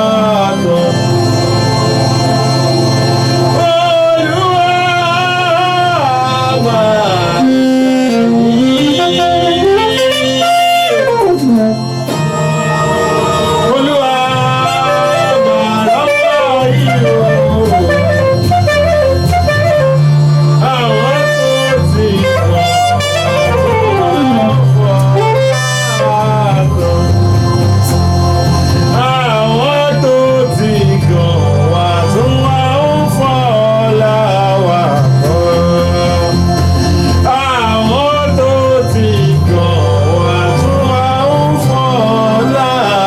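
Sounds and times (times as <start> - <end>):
held bass notes: 0.0 - 43.0
sliding melodic lead line: 0.0 - 43.0.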